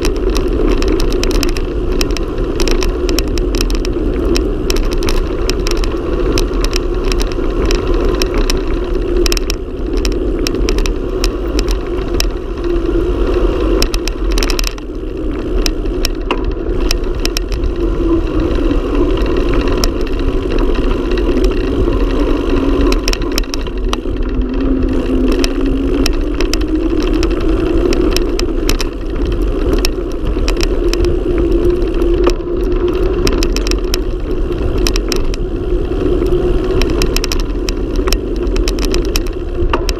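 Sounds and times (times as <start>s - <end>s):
bike clicks and rattles: 0.0s - 39.9s
tyre roar on asphalt: 0.0s - 39.9s
wind rushing on microphone: 0.0s - 39.9s.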